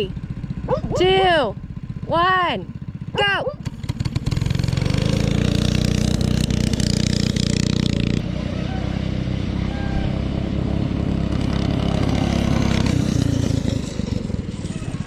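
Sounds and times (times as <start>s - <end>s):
go-kart engine running hard: 0.0s - 15.0s.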